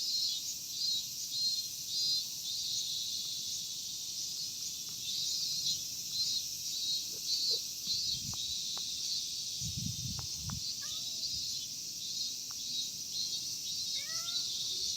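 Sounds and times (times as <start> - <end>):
cicadas buzzing: 0.1 - 14.9.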